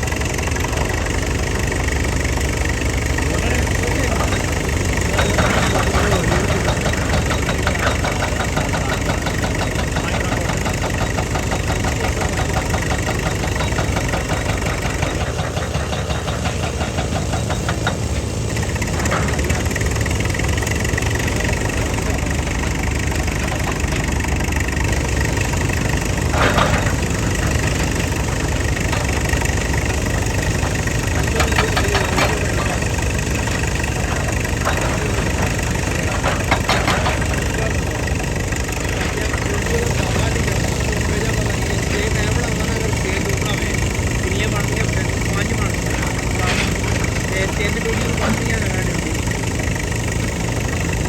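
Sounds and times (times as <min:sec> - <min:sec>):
heavy machine engine running: 0:00.0 - 0:51.0
short clanks: 0:02.6 - 0:51.0.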